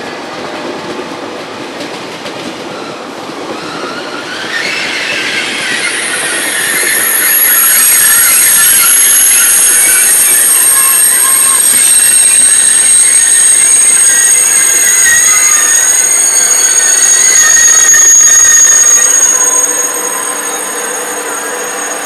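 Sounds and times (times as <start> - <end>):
train running noise: 0.0 - 22.0
train wheels squealing: 2.4 - 22.0.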